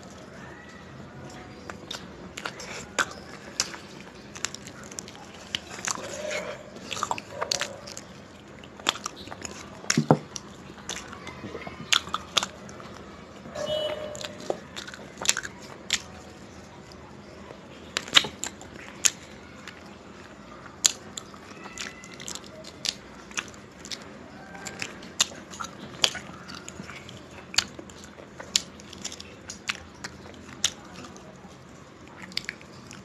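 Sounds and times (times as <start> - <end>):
wet biting and chewing: 1.3 - 13.1, 13.9 - 33.0.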